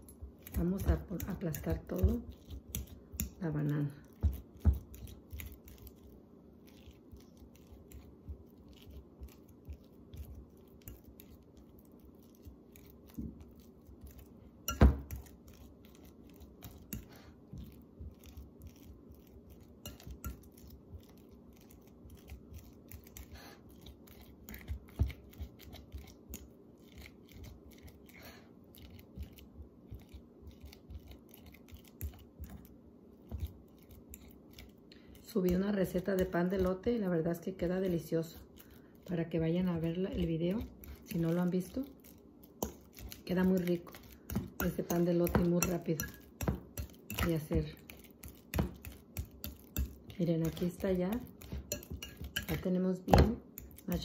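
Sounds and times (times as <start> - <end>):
faint steady hum: 0.0 - 54.0
fork mashing bananas: 0.0 - 54.0.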